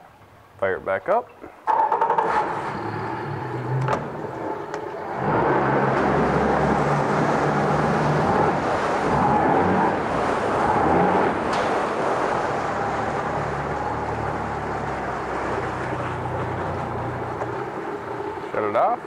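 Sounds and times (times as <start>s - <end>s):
outboard motor running: 1.7s - 19.0s.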